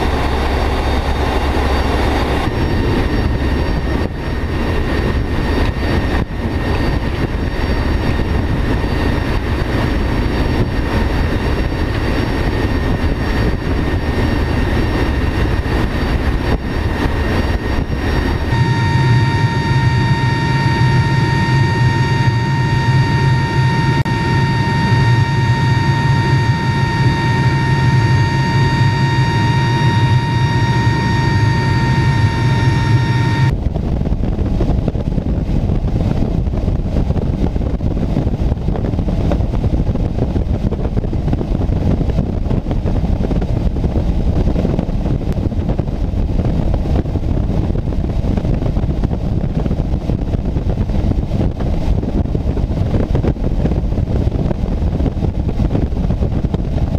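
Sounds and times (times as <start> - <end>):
aircraft engine whine: 0.0 - 56.9
wind rush and engine rumble: 0.0 - 56.9.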